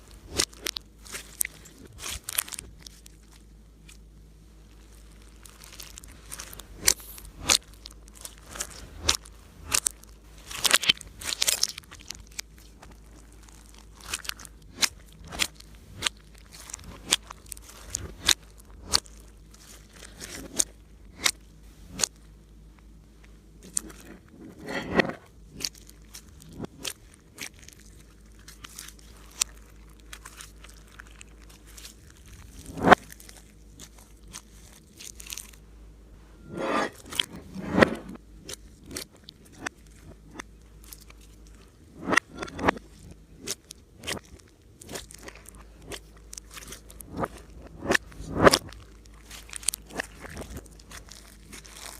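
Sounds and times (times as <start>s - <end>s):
slime squished by hand crackling: 0.1s - 4.1s, 4.7s - 22.2s, 25.5s - 35.6s, 38.4s - 51.9s.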